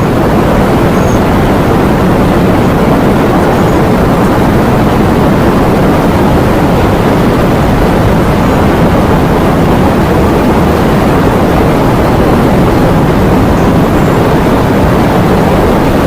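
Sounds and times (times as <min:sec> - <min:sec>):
heavy rain: 0:00.0 - 0:16.0
wind: 0:00.0 - 0:16.0.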